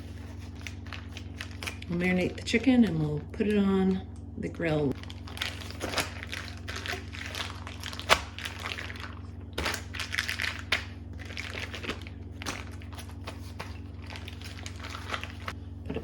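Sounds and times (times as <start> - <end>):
plastic crinkling: 0.0 - 2.4, 4.9 - 16.0.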